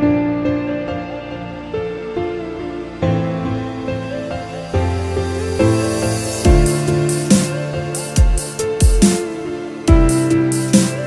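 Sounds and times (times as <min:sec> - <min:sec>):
electronic music with beat: 0:01.7 - 0:11.0.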